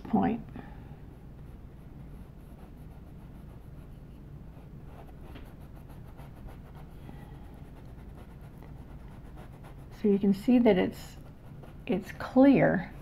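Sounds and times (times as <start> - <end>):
steady low hum: 0.0 - 13.0
paintbrush scratching on canvas: 1.4 - 13.0.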